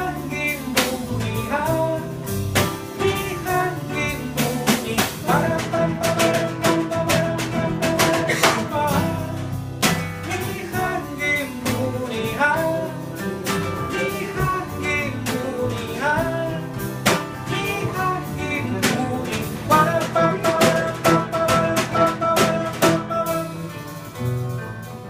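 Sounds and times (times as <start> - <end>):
person singing: 0.0 - 9.6, 10.2 - 24.0
drums: 0.0 - 25.0
guitar: 0.0 - 25.0.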